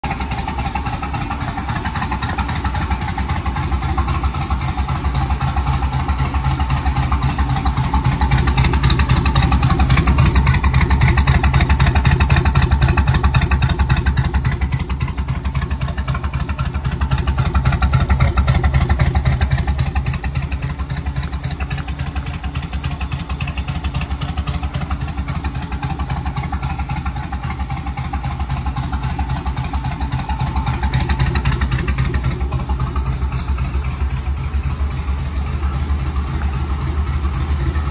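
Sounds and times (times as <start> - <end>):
engine idling through open exhaust: 0.0 - 37.9.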